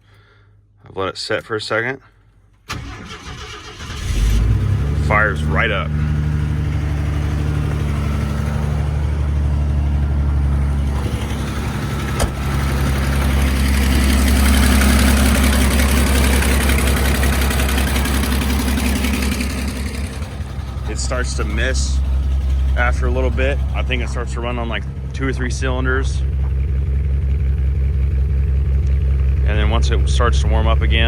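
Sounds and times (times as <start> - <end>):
engine running rough: 2.7 - 31.0.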